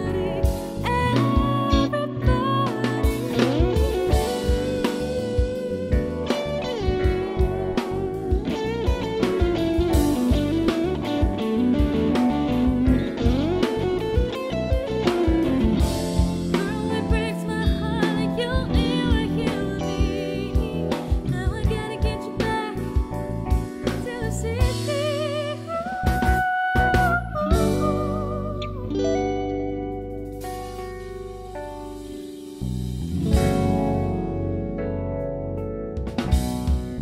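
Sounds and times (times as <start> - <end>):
drums keeping a beat: 0.0 - 25.4, 26.0 - 28.4, 30.3 - 34.2, 36.0 - 37.0
electric guitar solo: 0.0 - 35.4
bass: 0.0 - 37.0.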